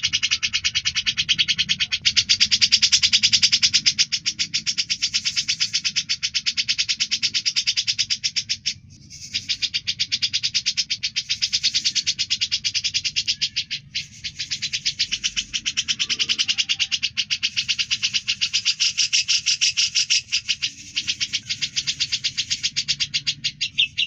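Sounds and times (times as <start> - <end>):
bird calling in high rattle: 0.0 - 24.0.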